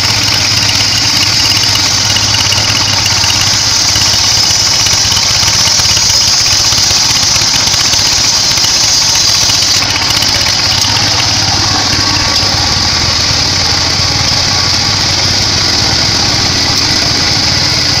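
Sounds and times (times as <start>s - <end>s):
band saw high whine: 0.0s - 18.0s
low engine drone: 0.0s - 18.0s.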